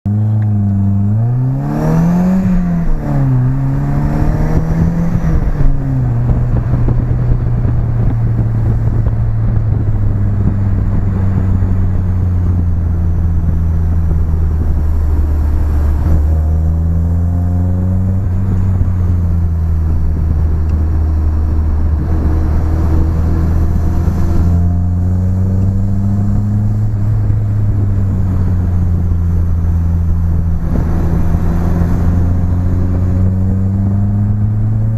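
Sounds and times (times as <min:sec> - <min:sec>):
car engine revving through exhaust: 0:00.1 - 0:34.9.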